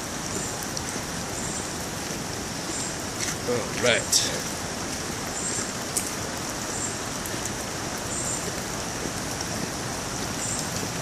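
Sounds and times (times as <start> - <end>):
rain on foliage: 0.0 - 11.0.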